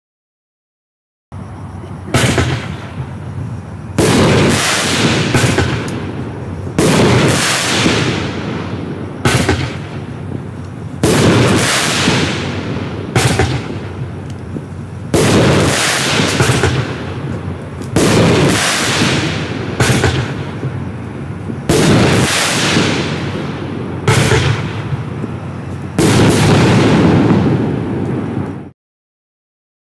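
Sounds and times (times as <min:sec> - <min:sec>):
firework shots bang and hiss: 0:01.9 - 0:28.7.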